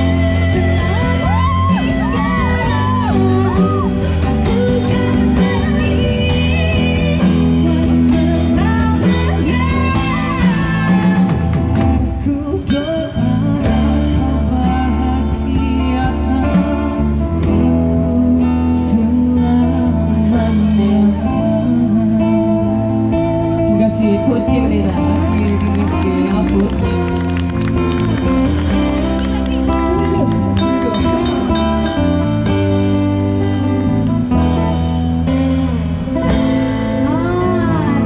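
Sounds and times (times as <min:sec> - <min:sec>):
person singing: 0:00.0 - 0:27.1, 0:27.8 - 0:38.0
heavy low bass: 0:00.0 - 0:38.0.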